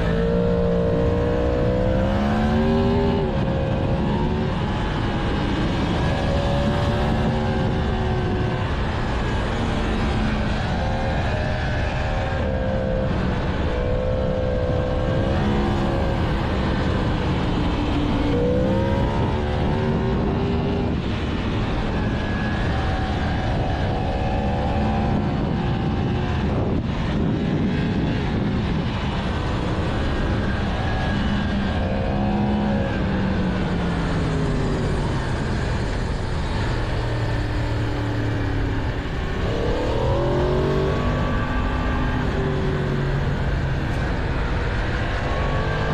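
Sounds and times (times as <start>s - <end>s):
motorcycle engine revving: 0.0s - 45.9s
wind rush: 0.0s - 45.9s.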